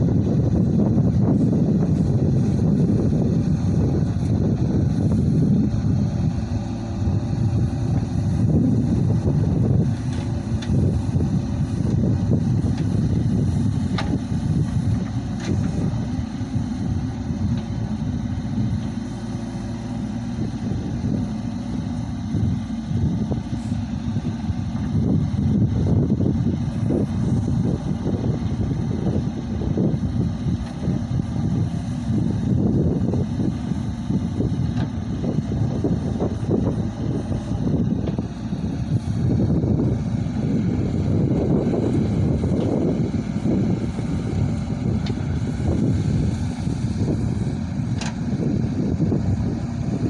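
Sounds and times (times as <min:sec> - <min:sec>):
heavy diesel engine rumbling: 0:00.0 - 0:50.0.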